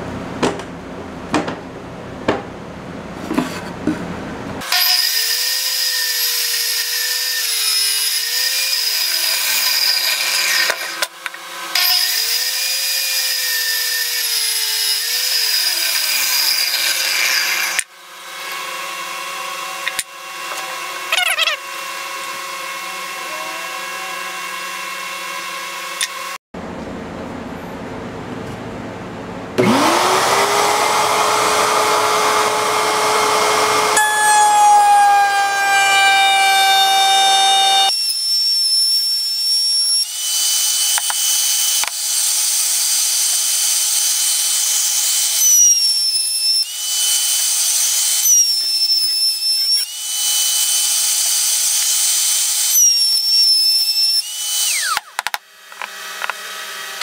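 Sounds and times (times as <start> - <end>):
router cutting wood: 4.6 - 26.4, 29.6 - 57.0
router motor whine: 4.6 - 26.4, 29.6 - 57.0.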